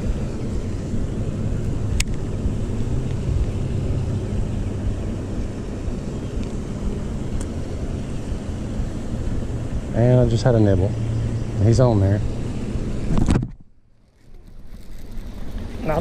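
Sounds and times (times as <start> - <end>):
low engine-like drone: 0.0 - 16.0.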